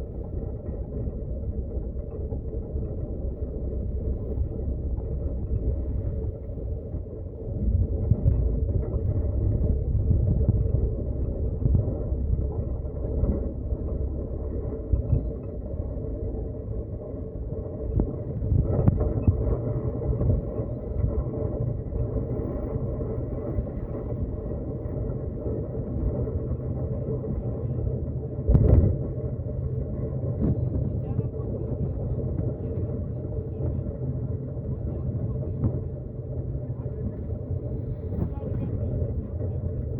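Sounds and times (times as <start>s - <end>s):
vehicle road rumble: 0.0s - 39.9s.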